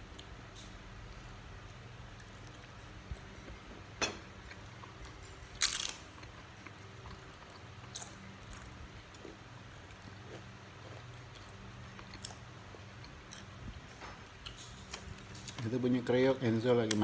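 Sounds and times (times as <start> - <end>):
man chewing food: 0.0 - 15.6
low steady hum: 0.0 - 17.0.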